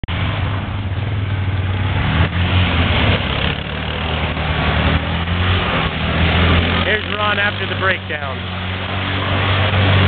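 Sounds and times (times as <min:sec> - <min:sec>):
atv engine running: 0:00.1 - 0:10.0.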